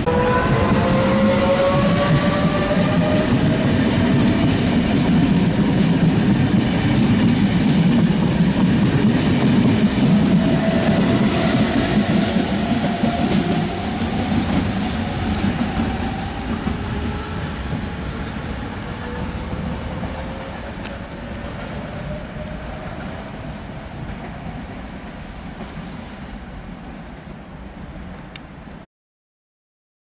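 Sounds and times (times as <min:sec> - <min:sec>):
electric train rumble and whine: 0:00.0 - 0:28.8.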